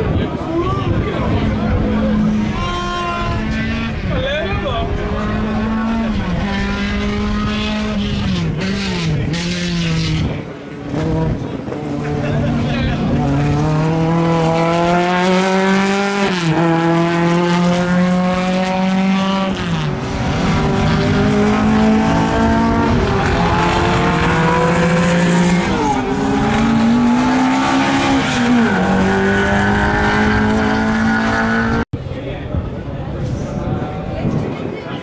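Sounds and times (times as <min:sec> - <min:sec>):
racing car engine revving: 0:01.2 - 0:31.9.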